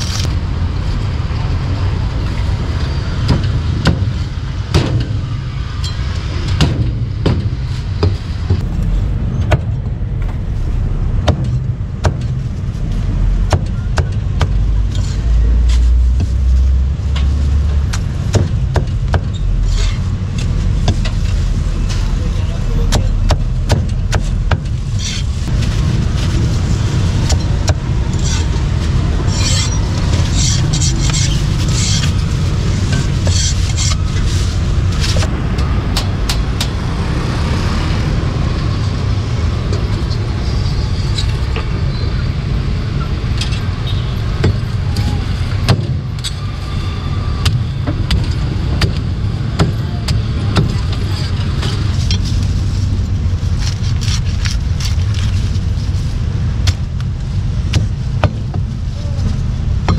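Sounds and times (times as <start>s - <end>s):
low rumble of street noise: 0.0s - 59.9s.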